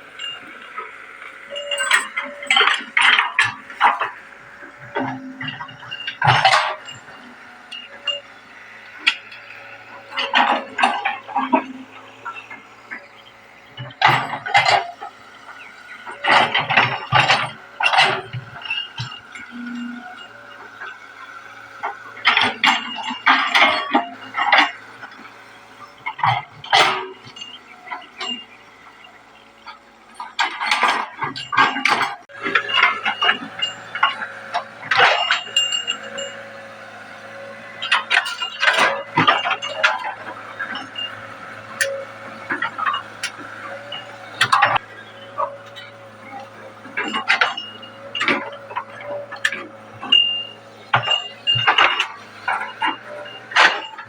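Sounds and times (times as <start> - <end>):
excavator metal clattering: 0.0 - 54.0.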